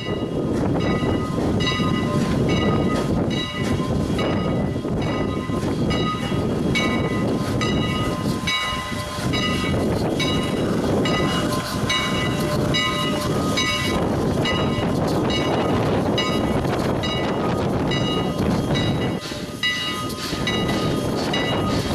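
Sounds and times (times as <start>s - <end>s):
locomotive bell ringing: 0.0s - 21.9s
train rumbling: 0.0s - 21.9s
wind on microphone: 0.0s - 21.9s.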